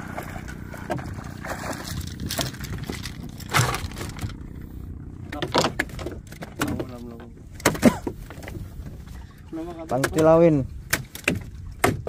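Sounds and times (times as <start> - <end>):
steady low rumble: 0.0 - 11.8
knocks and scrapes on boat hull: 0.2 - 4.4, 5.3 - 12.0.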